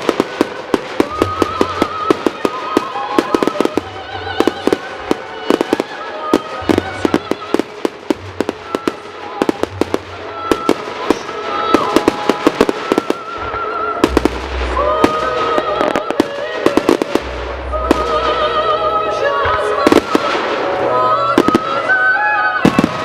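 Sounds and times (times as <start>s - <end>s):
fireworks bursting: 0.0s - 23.0s
music with sung melody and bass: 0.0s - 23.0s.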